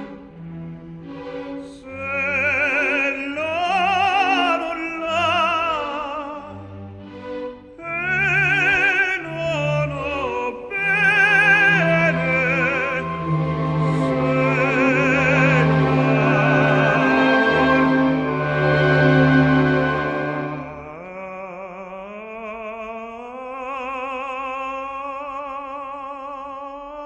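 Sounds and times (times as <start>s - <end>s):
operatic singing with orchestra: 0.0s - 27.0s.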